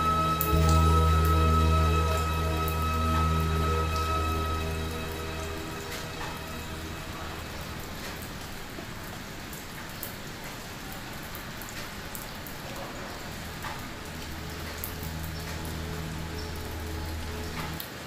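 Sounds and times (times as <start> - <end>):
raindrops ticking: 0.0 - 17.9
steady rain hiss: 0.0 - 18.0.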